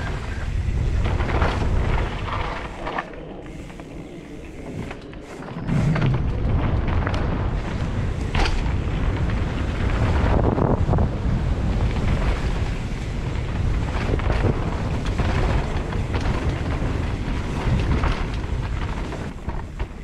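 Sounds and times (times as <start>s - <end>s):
bike knocks and rattles: 0.0s - 20.0s
bike tyres rumbling over dirt: 0.0s - 20.0s
wind buffeting microphone: 0.0s - 20.0s.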